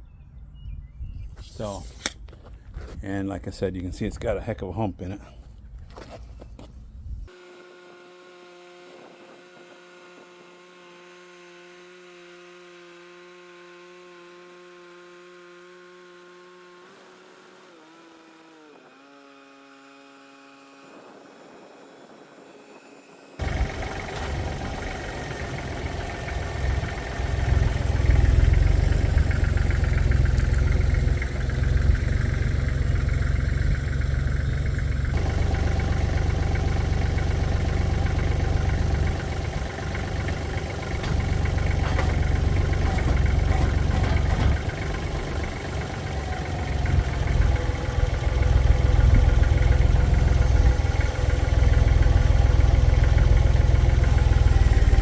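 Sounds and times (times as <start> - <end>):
engine running with deep rumble: 8.5 - 55.0.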